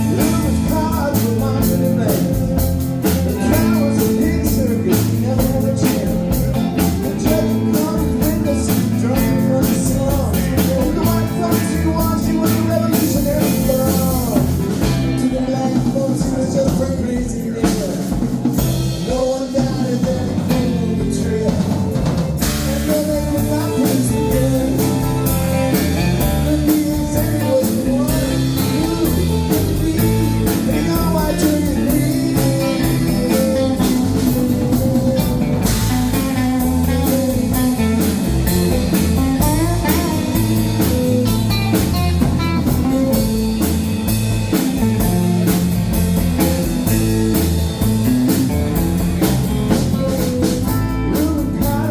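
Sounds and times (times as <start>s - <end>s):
drum kit beat: 0.0s - 51.9s
electric guitar: 0.0s - 51.9s.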